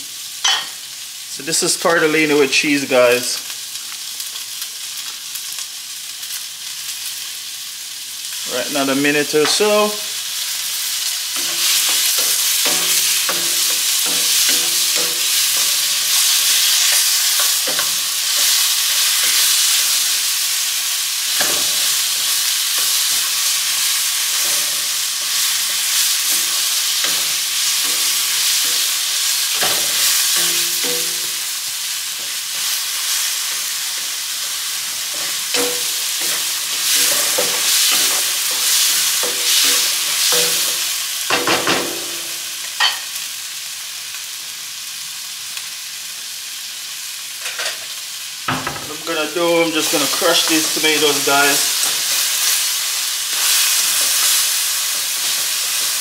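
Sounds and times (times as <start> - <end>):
vegetables sizzling in oil: 0.0 - 56.0.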